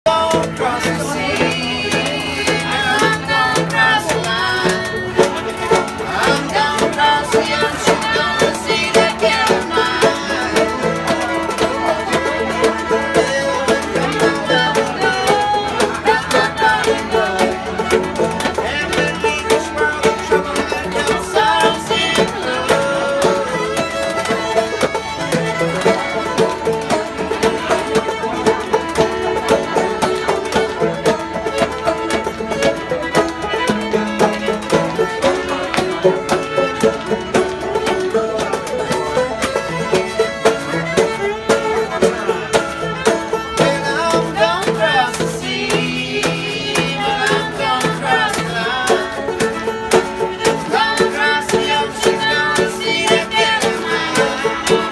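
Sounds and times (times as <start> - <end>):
banjo picking: 0.0 - 54.9
fiddle melody: 0.0 - 54.9.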